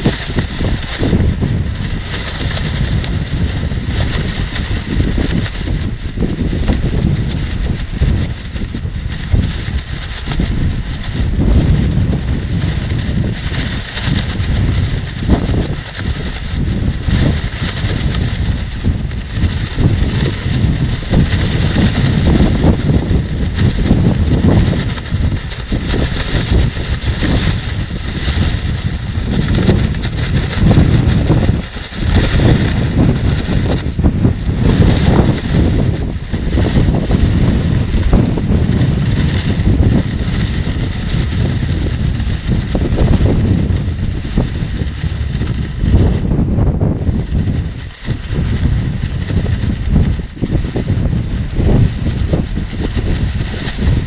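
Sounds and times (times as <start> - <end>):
plastic rainsuit rustling: 0.0 - 46.1
wind buffeting microphone: 0.0 - 54.0.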